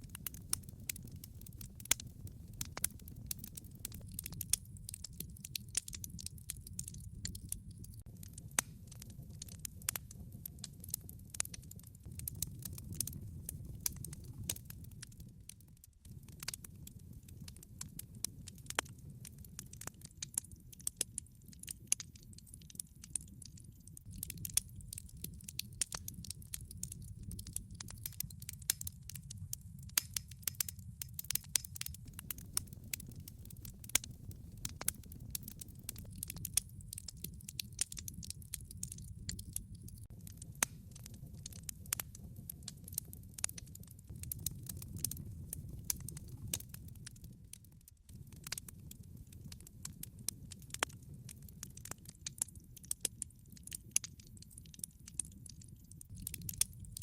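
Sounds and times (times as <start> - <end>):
logs crackling and popping: 0.0 - 57.0
low rumble of flames: 0.0 - 57.0.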